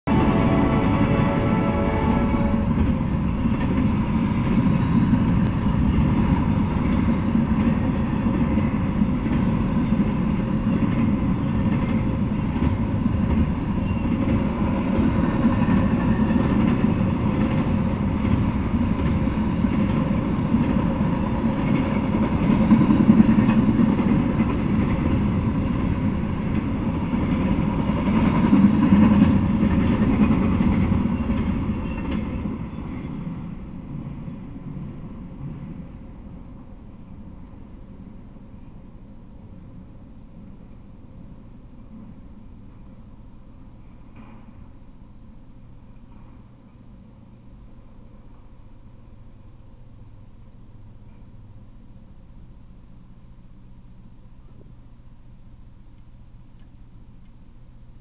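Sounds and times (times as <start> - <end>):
freight train wheels rumbling on rail: 0.1 - 55.4.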